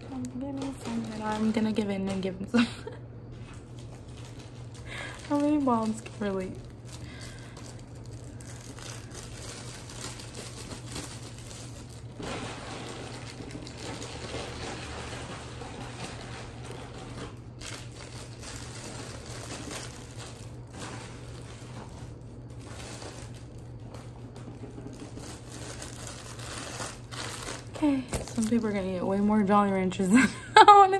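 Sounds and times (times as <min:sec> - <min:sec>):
candy wrappers crinkling: 0:00.0 - 0:30.1
constant low hum: 0:00.0 - 0:30.9.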